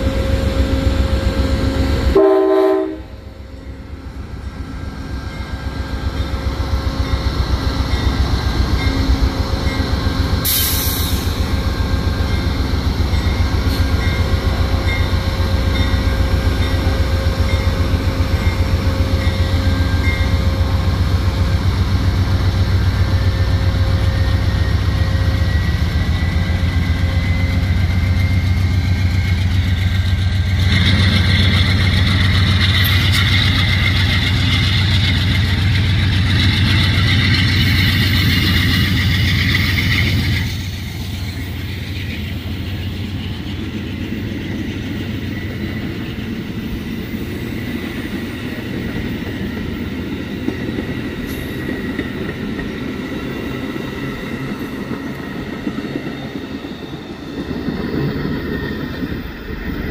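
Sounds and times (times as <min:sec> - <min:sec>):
diesel locomotive engine throb: 0:00.0 - 0:59.9
freight train rumbling: 0:00.0 - 0:59.9.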